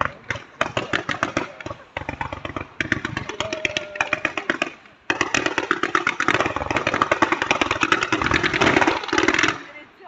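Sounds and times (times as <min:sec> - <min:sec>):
fireworks firing sharp shots: 0:00.0 - 0:10.0.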